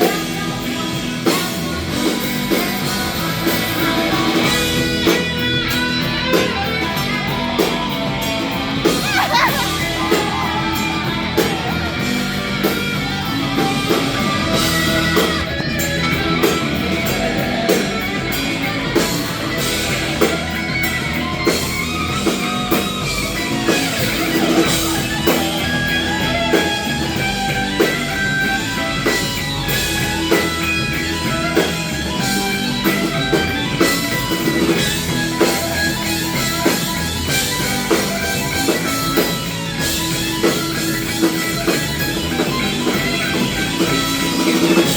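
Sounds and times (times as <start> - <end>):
drum kit steady beat: 0.0 - 44.9
electric guitar: 0.0 - 44.9.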